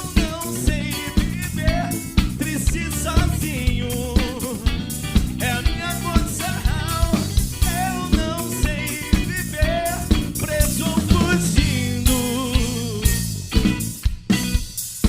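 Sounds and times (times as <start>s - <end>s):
pop-rock band playing: 0.0s - 15.0s.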